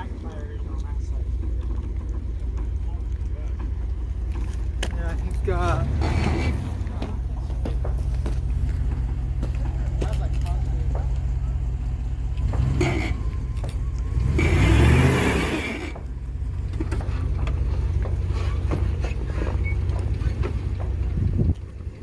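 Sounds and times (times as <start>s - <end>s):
low drivetrain hum: 0.0s - 22.0s.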